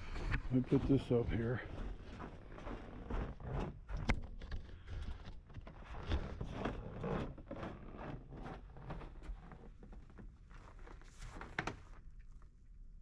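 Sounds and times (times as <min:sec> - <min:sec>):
rustling and scraping of gear: 0:00.0 - 0:12.6.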